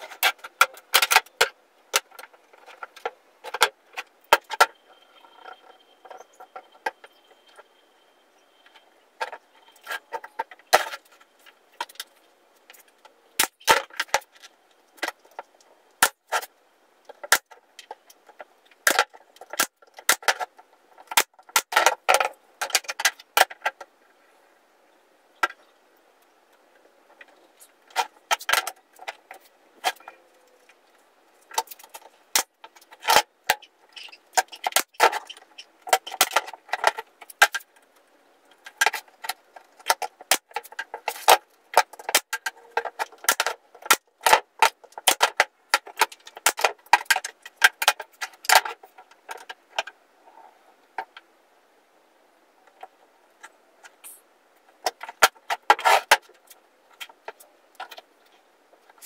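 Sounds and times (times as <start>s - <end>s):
wooden pieces clacking: 0.0s - 7.6s, 8.6s - 23.9s, 26.5s - 50.0s, 52.6s - 59.0s.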